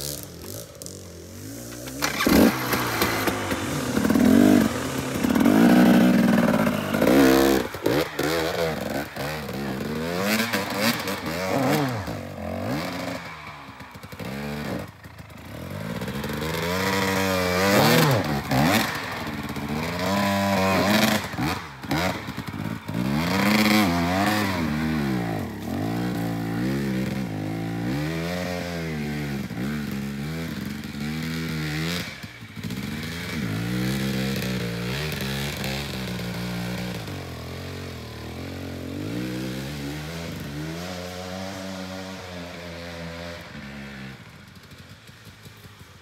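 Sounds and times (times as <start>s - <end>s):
dirt bike engine revving: 0.0s - 44.8s.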